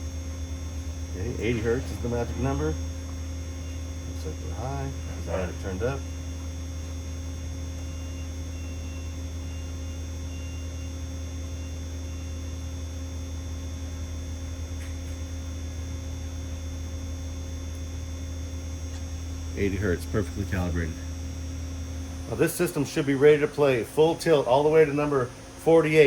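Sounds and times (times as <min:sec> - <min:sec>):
amplifier electrical hum: 0:00.0 - 0:26.0.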